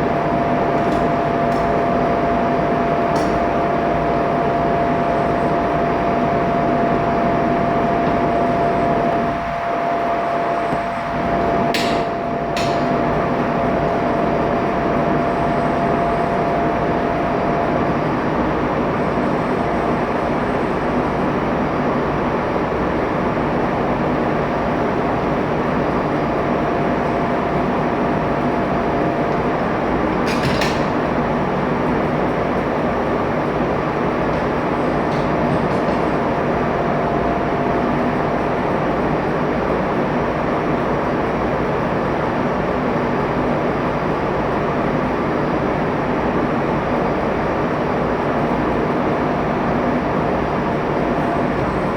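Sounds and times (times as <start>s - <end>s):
engine room machinery drone: 0.0s - 51.9s
faint machinery whine: 0.0s - 51.9s.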